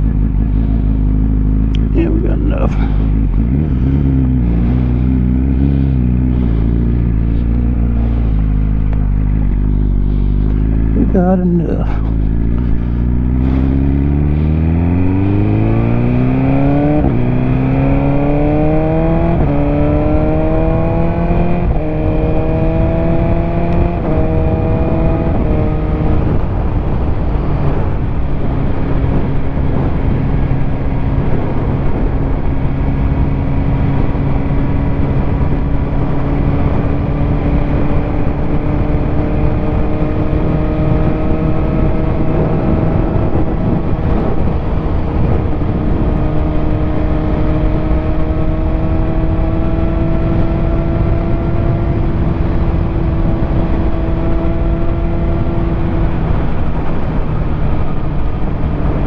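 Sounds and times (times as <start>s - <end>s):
motorcycle engine accelerating: 0.0s - 59.0s
wind rushing past microphone: 0.0s - 59.0s.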